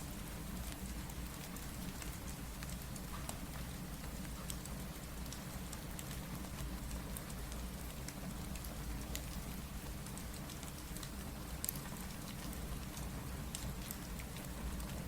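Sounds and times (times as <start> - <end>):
steady rain: 0.0 - 15.0
wood fire crackling: 0.5 - 15.0.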